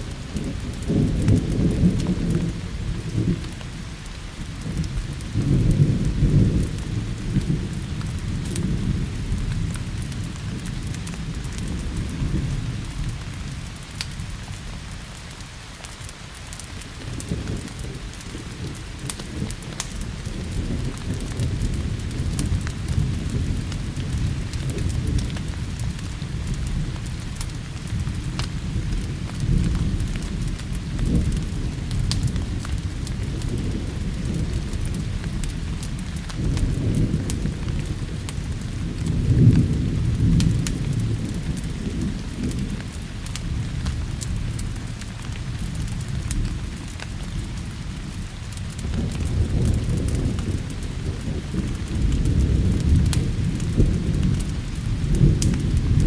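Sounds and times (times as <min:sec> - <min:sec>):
low rolling thunder: 0:00.0 - 0:15.2, 0:16.6 - 0:56.0
steady rain: 0:00.0 - 0:56.0.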